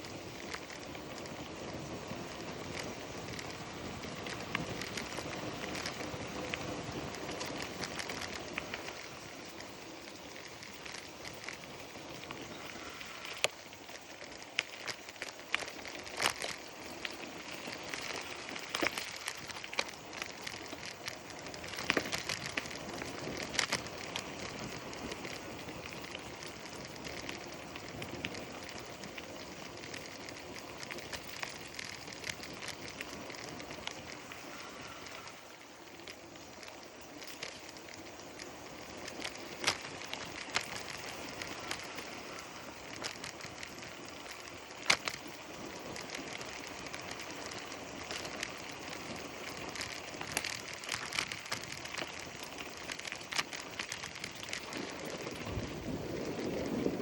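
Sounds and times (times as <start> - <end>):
crackles and sharp clicks: 0.0 - 57.0
rushing of tyres and air: 0.0 - 57.0.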